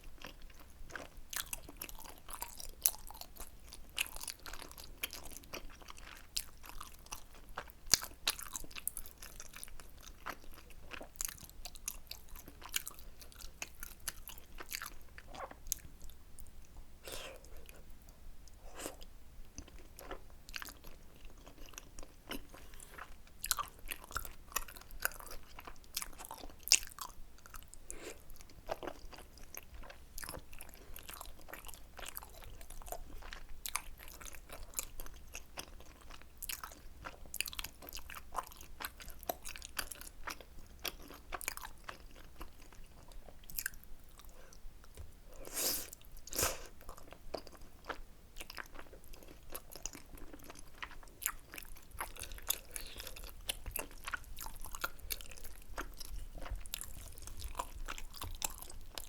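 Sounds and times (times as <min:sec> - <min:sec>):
close chewing and biting: 0:00.1 - 0:16.1, 0:19.6 - 0:45.1, 0:45.9 - 0:59.0.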